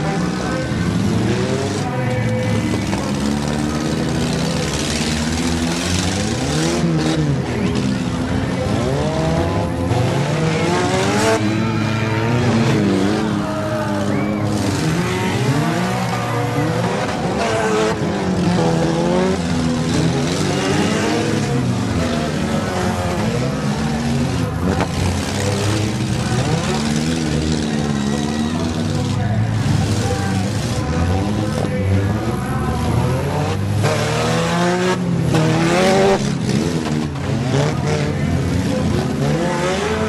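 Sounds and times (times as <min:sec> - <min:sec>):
car engines revving hard: 0:00.0 - 0:40.0
cars crashing: 0:00.0 - 0:40.0.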